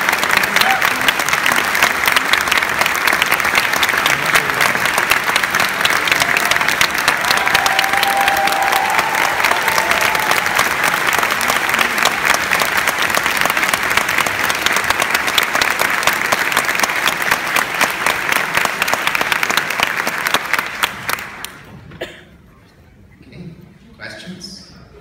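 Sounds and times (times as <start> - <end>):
audience applauding: 0.0 - 21.7.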